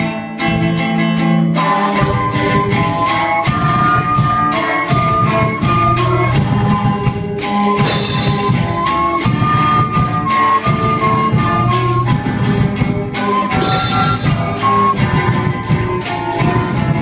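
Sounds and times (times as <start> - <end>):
electric bass: 0.0 - 17.0
percussion beat: 0.0 - 17.0
strummed acoustic guitar: 0.0 - 17.0
melodicas playing melody: 1.4 - 17.0.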